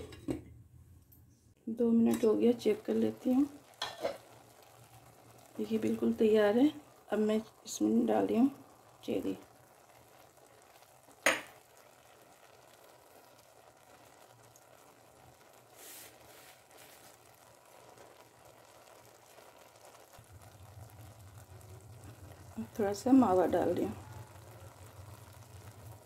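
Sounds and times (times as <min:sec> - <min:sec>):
pot of rice cooking hiss: 0:01.7 - 0:26.0.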